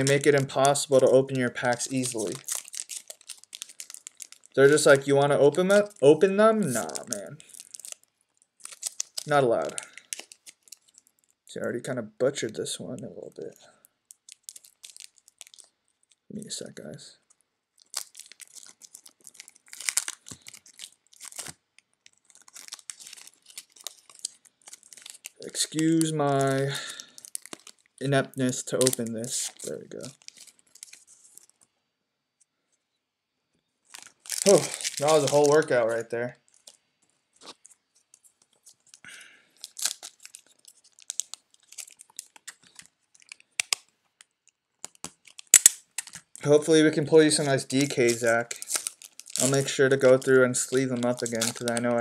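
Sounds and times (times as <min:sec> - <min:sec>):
card pack wrapper crinkling and tearing: 0:00.0 - 0:11.4, 0:12.6 - 0:16.7, 0:17.3 - 0:31.7, 0:33.9 - 0:36.8, 0:37.4 - 0:52.0.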